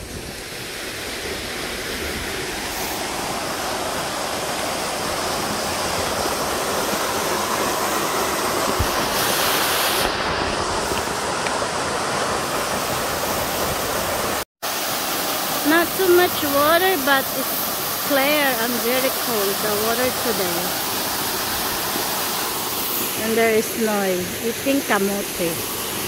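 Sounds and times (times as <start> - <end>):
waterfall splashing into pool: 0.4 - 23.2.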